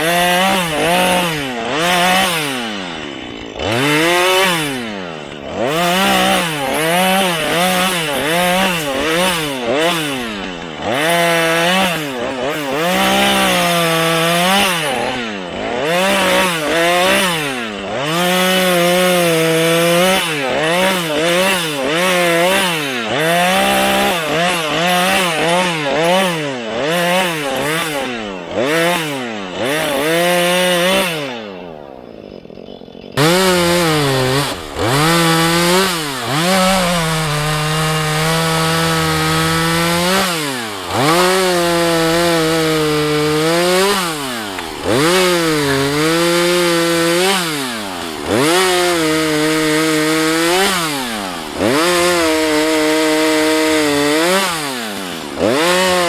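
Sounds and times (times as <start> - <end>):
chainsaw revving while cutting wood: 0.0 - 56.0.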